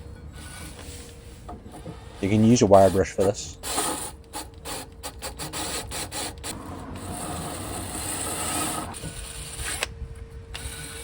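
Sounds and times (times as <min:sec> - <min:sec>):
wire brush scrubbing metal: 0:00.4 - 0:09.8.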